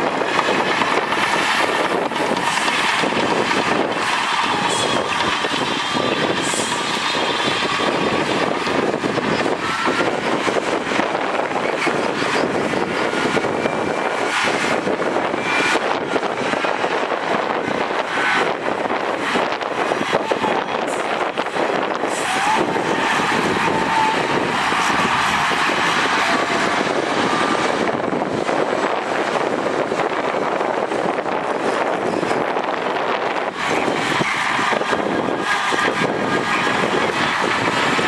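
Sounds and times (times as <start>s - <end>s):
diesel machinery running: 0.0s - 38.0s.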